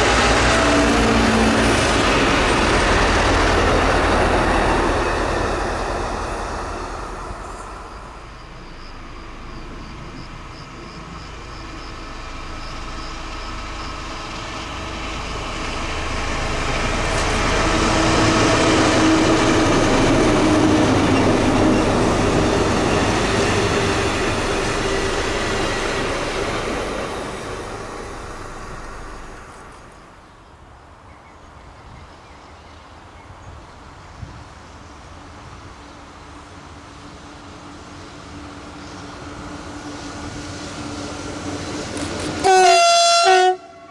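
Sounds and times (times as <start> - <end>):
diesel locomotive engine hum: 0.0 - 43.9
wind: 0.0 - 43.9.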